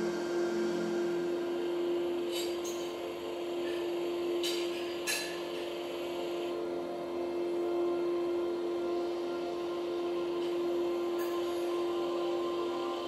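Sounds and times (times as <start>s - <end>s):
projector humming and whirring: 0.0s - 13.0s.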